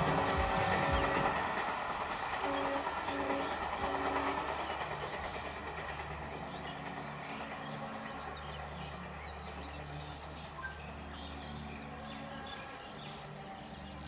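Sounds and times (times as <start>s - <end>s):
diesel train pulling away: 0.0s - 14.0s
train horn toots: 0.0s - 14.0s.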